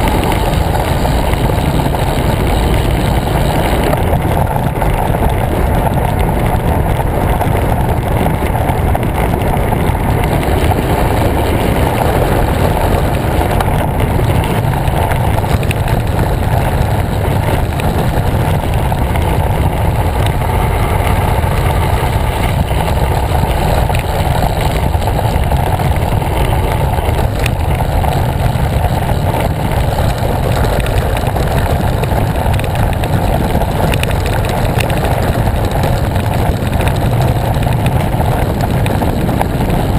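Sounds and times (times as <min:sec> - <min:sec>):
tyres rumbling on asphalt: 0:00.0 - 0:39.9
wind buffeting microphone: 0:00.0 - 0:39.9.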